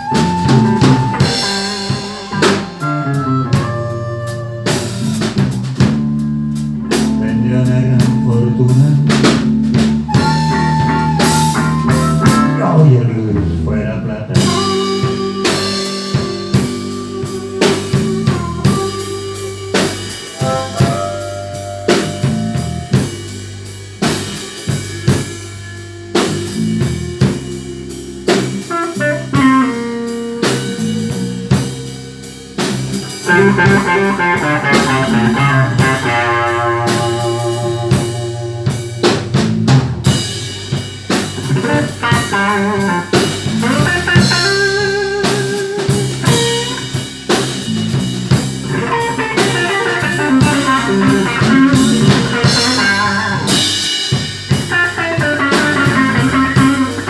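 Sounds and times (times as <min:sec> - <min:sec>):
bass: 0:00.0 - 0:57.0
drum kit: 0:00.0 - 0:57.0
lead guitar bending notes: 0:00.0 - 0:57.0.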